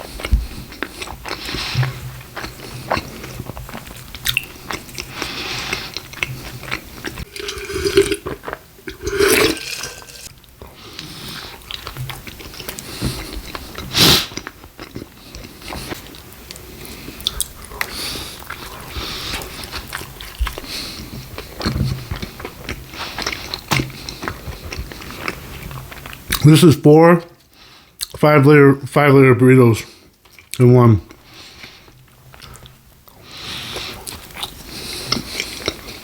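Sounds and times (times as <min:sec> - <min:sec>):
chewing and biting food: 0:00.0 - 0:26.4, 0:30.2 - 0:36.0.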